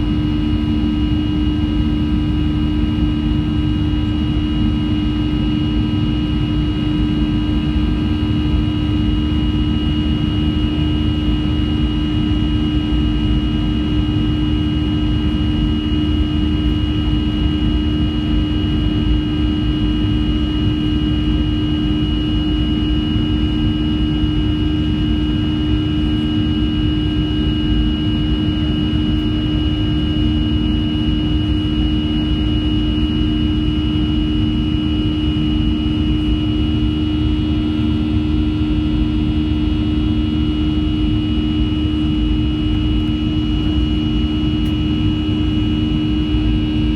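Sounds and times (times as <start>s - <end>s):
airplane cabin drone: 0.0s - 46.9s.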